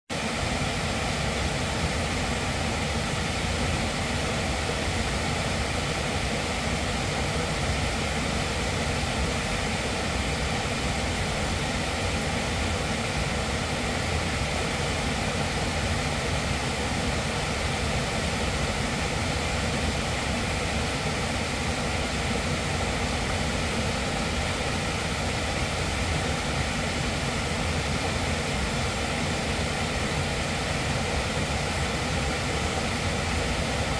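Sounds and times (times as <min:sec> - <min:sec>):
waterfall rushing over rocks: 0:00.1 - 0:33.9.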